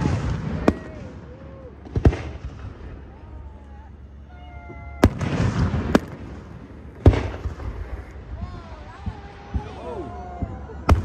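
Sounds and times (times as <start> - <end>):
fireworks booming: 0.0 - 3.2, 4.6 - 11.0
fireworks crackling: 0.0 - 3.4, 4.2 - 11.0.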